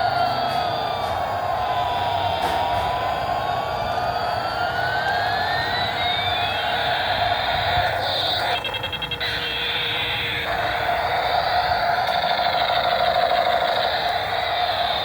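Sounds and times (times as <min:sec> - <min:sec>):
steady buzzing whir: 0:00.0 - 0:15.0
toy helicopter siren-like tones: 0:00.0 - 0:15.0.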